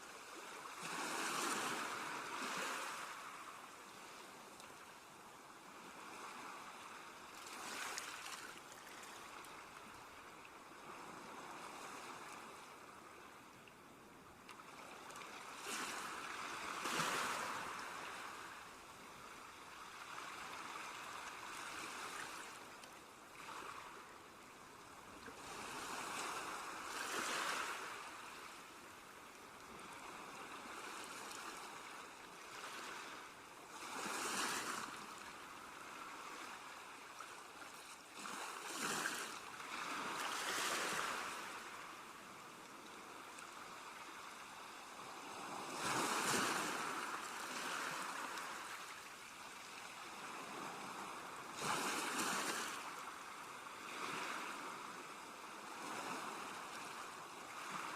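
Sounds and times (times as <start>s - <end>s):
sea waves breaking on shore: 0.0s - 13.5s, 14.6s - 57.9s.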